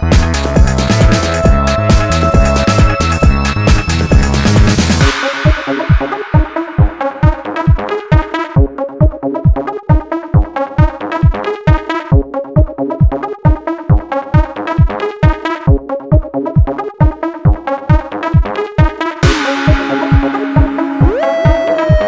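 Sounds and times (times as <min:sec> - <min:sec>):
electronic dance music: 0:00.0 - 0:22.0
steady kick drum: 0:00.0 - 0:22.0
synth notes: 0:00.0 - 0:22.0.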